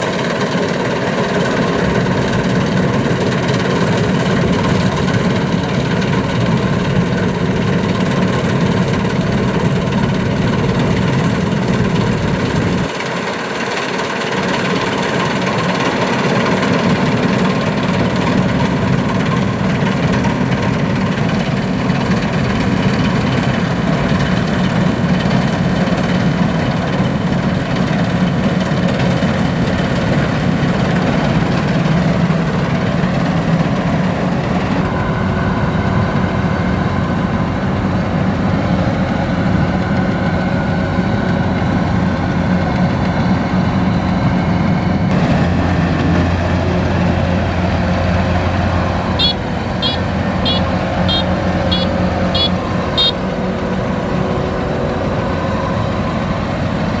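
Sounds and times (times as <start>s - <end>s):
combine harvester diesel running: 0.0s - 57.0s
high machine whine: 0.0s - 57.0s.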